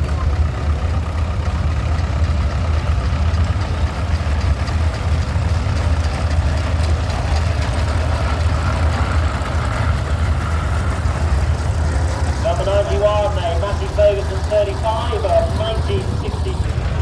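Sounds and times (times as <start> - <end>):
tractor engine low rumble: 0.0 - 17.0.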